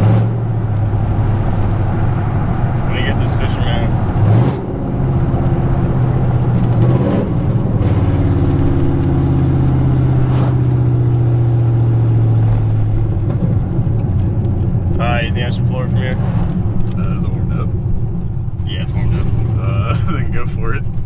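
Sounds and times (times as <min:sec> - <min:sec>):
loud engine exhaust drone: 0:00.0 - 0:20.8.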